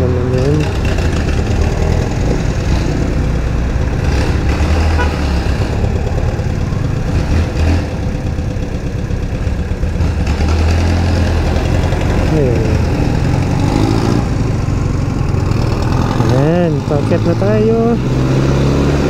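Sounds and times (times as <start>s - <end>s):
motorcycle engine running: 0.0s - 18.4s
road and wind noise: 0.0s - 19.0s.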